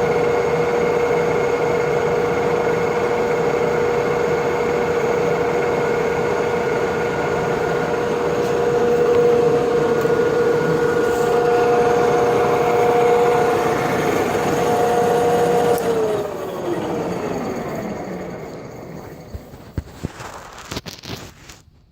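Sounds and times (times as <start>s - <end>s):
lathe motor whining: 0.0s - 20.5s.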